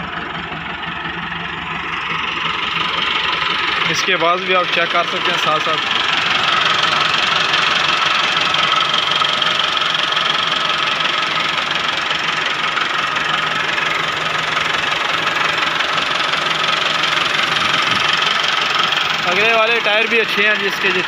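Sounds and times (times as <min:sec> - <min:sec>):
tractor diesel engine idling: 0:00.0 - 0:21.0.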